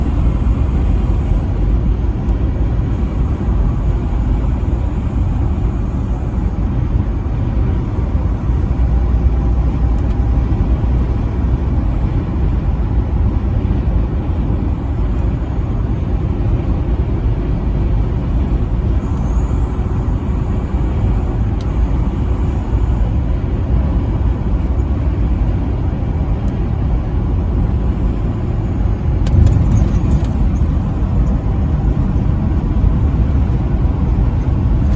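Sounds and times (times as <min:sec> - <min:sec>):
vehicle driving at highway speed: 0:00.0 - 0:34.9.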